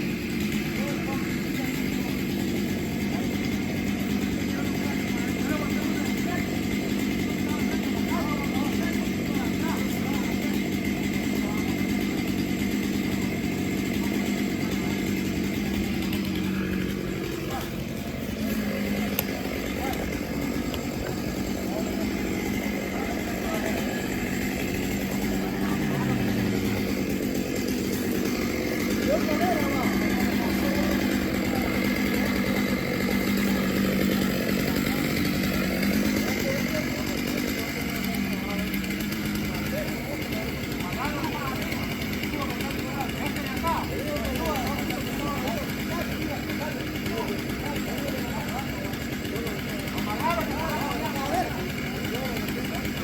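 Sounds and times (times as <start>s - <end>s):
chainsaw engine running: 0.0s - 53.0s.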